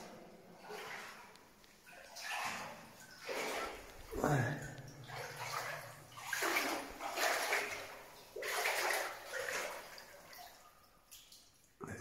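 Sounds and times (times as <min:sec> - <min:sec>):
water splashing and sloshing: 0:00.0 - 0:11.9.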